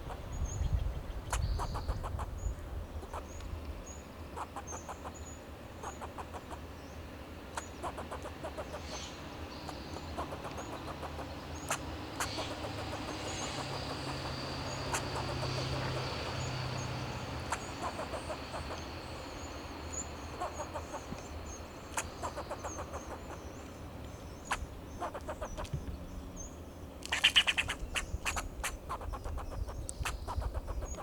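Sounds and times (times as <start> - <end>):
squirrel alarm calls: 0.0 - 31.0
vehicle engine hum: 2.3 - 31.0.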